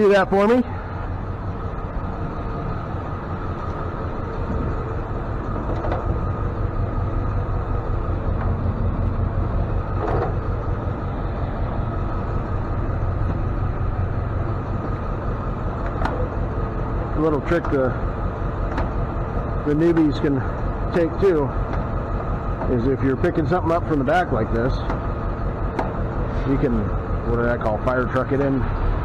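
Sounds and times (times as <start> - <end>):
faint steady whine: 0.0 - 28.7
truck engine idling: 0.0 - 29.0.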